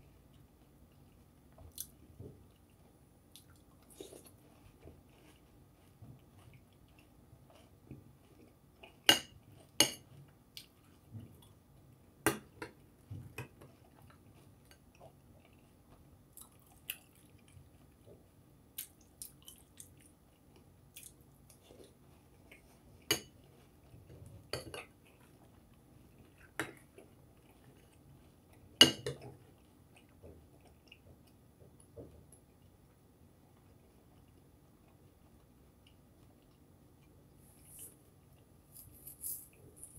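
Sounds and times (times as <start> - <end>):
chewing cereal: 0.1 - 12.0, 12.7 - 39.9.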